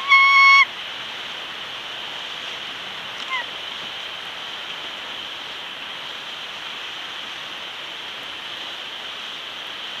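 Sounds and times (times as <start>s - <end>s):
steady microphone hiss: 0.0s - 10.0s.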